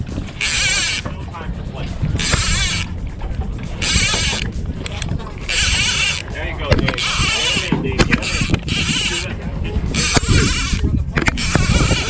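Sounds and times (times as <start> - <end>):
boat rumble: 0.0 - 12.0
low wind: 0.0 - 12.0
fishing reel clicker buzzing: 0.2 - 1.1, 2.1 - 12.0.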